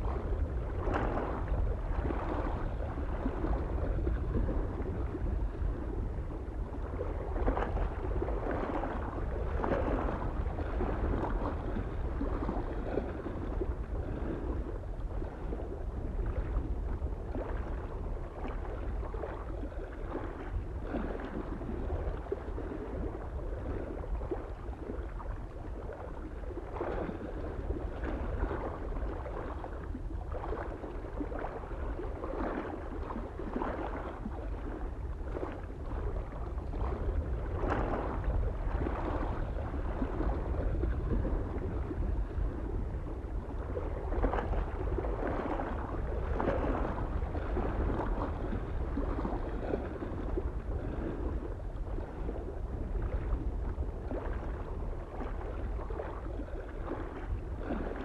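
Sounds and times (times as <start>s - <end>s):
low wind rumble: 0.0s - 58.0s
small waves lapping on shore: 0.0s - 58.0s.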